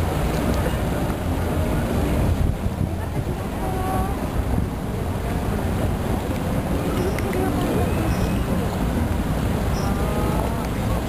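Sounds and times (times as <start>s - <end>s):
boat engine rumble: 0.0s - 11.0s
wind buffeting microphone: 0.0s - 11.0s.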